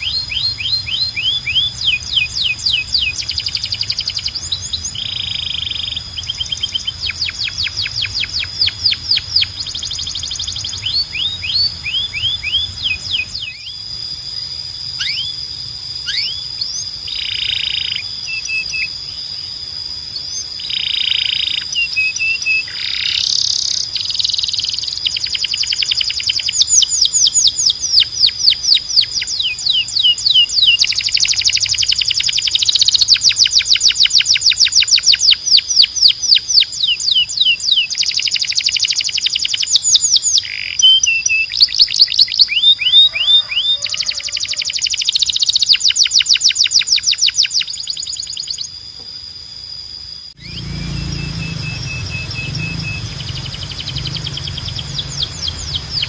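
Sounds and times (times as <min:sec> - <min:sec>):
canary singing: 0:00.0 - 0:48.8, 0:50.3 - 0:56.0
steady high whistled tone: 0:00.0 - 0:56.0.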